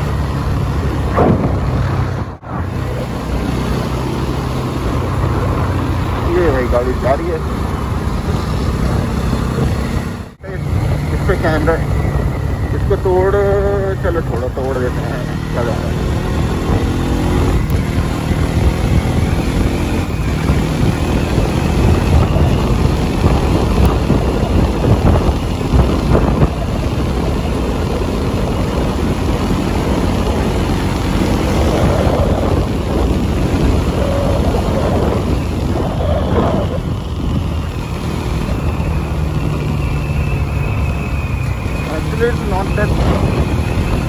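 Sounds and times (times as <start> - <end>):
motorcycle engine under throttle: 0.0 - 44.0
wind rushing over microphone: 0.0 - 44.0.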